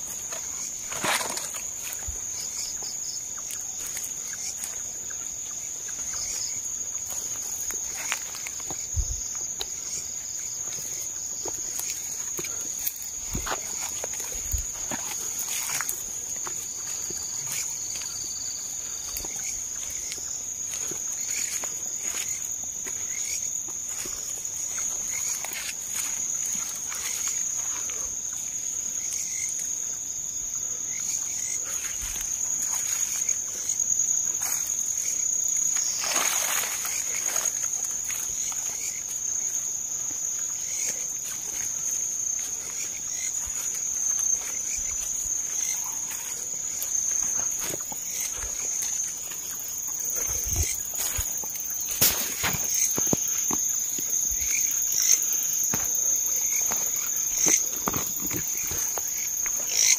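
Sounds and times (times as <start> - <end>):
footsteps rustling through undergrowth: 0.0 - 59.9
night insects droning: 0.0 - 59.9.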